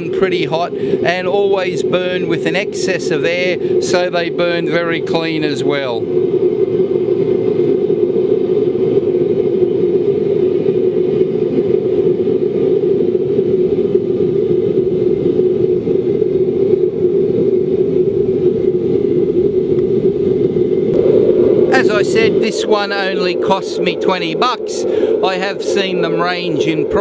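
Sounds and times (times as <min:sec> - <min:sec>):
burner blower rushing and humming: 0:00.0 - 0:27.0.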